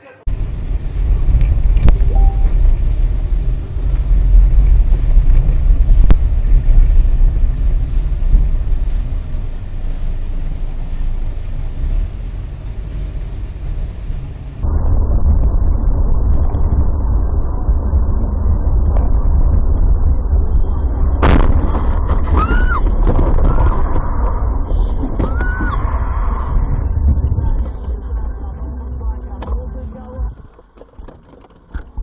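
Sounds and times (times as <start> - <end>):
car road and engine rumble: 0.2 - 32.0.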